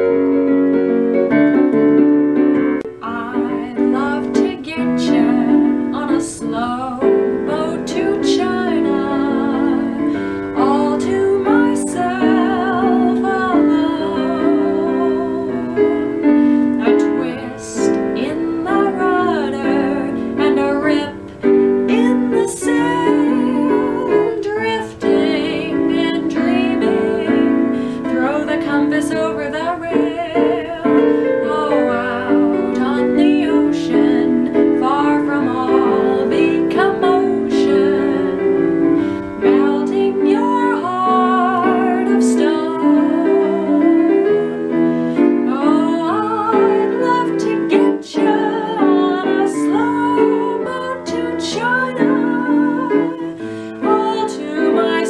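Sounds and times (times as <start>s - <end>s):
piano accompaniment: 0.0s - 55.0s
woman singing jazz with vibrato: 0.0s - 55.0s.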